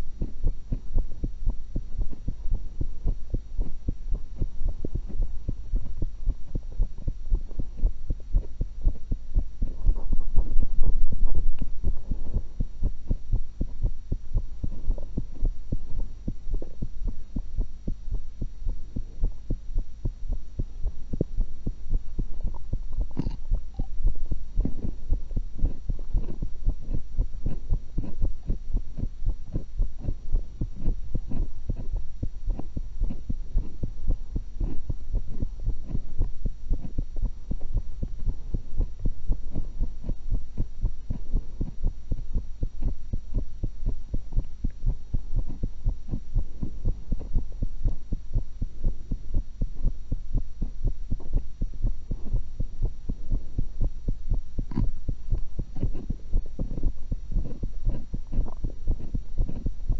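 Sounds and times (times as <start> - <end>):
constant hum: 0.0 - 59.9
heartbeat through stethoscope: 0.0 - 59.9.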